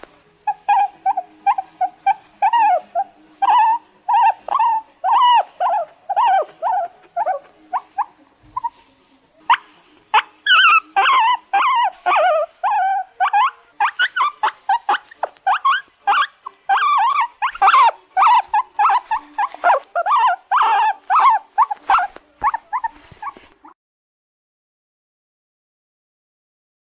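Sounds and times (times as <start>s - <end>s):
guinea pig squealing: 0.4s - 8.9s, 9.5s - 23.7s.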